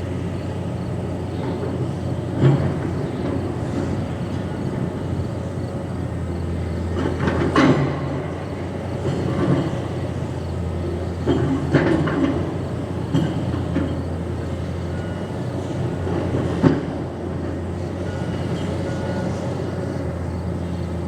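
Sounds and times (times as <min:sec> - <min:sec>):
demolition machinery engine drone: 0:00.0 - 0:21.0.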